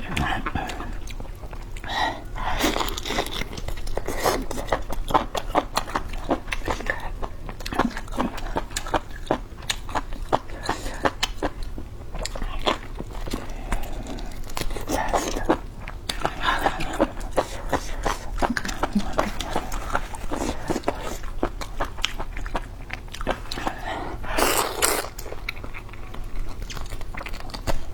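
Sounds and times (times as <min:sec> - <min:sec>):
person chewing and eating: 0:00.0 - 0:27.9.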